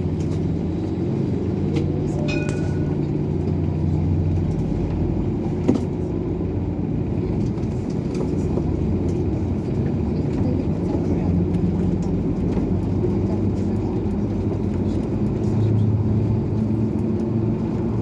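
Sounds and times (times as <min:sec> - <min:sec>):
bus engine drone: 0:00.0 - 0:18.0.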